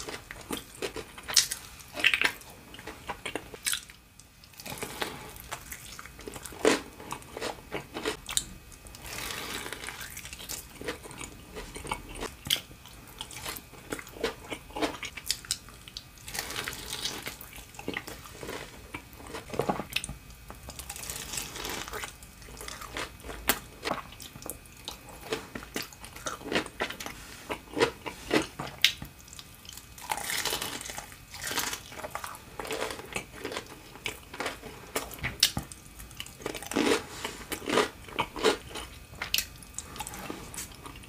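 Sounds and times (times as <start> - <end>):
crunching and chewing fried food: 0.0 - 41.0.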